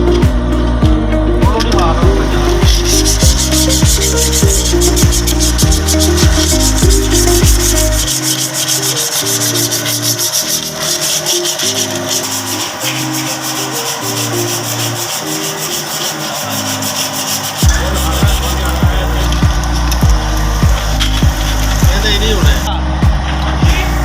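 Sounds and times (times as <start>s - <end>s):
background music with hi-hat ticks: 0.0s - 24.0s.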